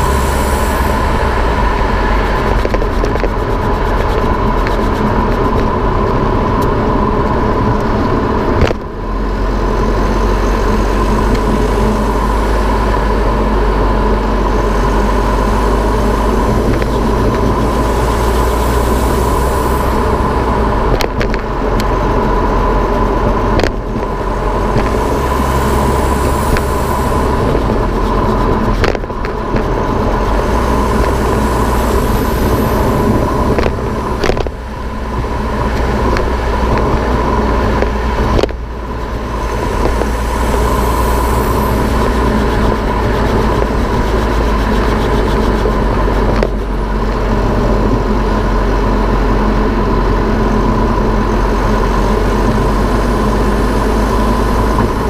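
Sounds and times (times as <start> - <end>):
steady hum: 0.0 - 55.0
tyre and road noise: 0.0 - 55.0.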